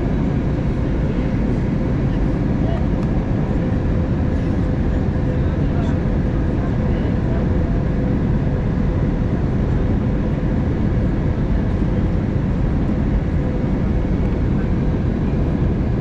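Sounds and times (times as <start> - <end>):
airplane cabin noise: 0.0 - 16.0.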